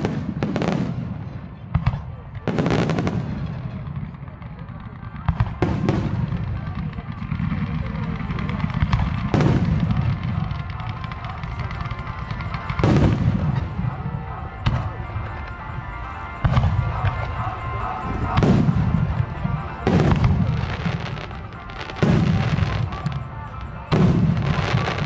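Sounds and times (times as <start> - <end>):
firework shells booming: 0.0 - 25.0
rumbling echo and crackle: 0.0 - 25.0.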